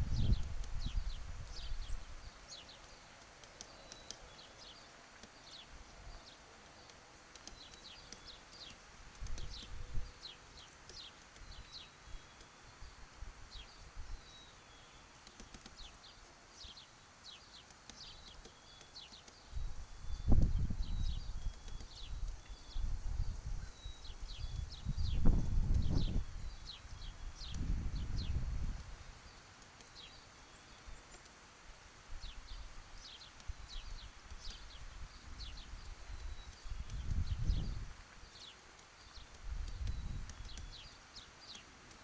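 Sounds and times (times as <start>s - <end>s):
woodpecker tapping: 0.3s - 13.8s, 14.8s - 19.7s, 20.3s - 31.4s, 32.4s - 42.0s.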